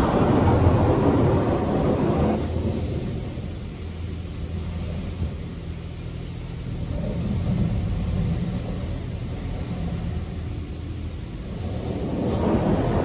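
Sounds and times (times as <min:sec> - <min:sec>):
car wash machinery humming: 0:00.0 - 0:13.0.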